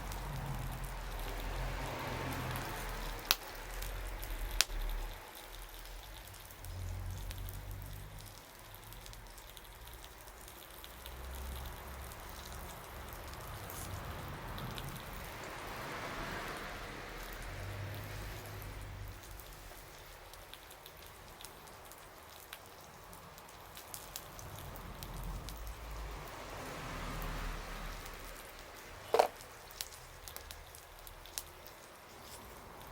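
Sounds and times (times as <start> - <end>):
steady hiss: 0.0 - 32.9
wood fire crackling: 0.0 - 32.9.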